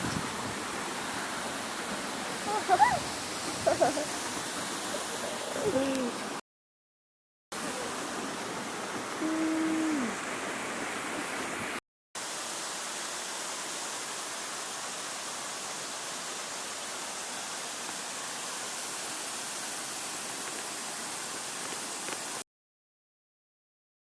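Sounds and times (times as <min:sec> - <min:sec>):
waterfall rushing: 0:00.0 - 0:06.4, 0:07.6 - 0:22.4.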